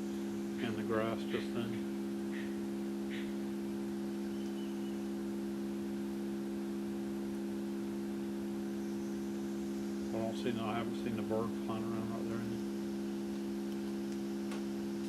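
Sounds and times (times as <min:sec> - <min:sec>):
steady low tone hum: 0:00.0 - 0:15.0.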